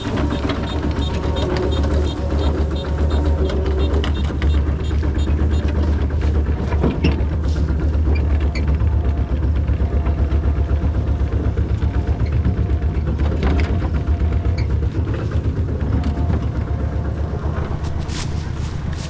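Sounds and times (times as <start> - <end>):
harvester engine rumbling: 0.0 - 19.0.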